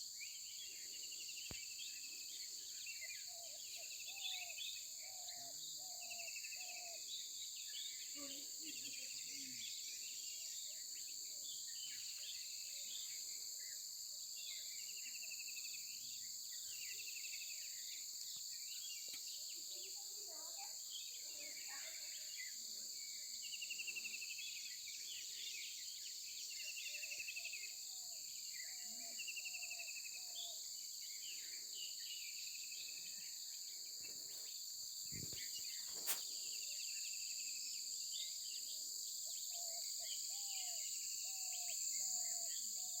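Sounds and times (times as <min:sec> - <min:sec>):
high-pitched insect chorus: 0:00.0 - 0:43.0.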